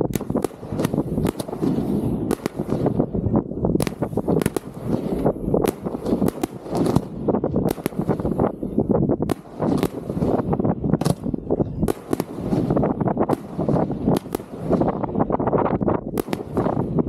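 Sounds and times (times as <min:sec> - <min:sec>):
fireworks launching and bursting: 0:00.0 - 0:17.0.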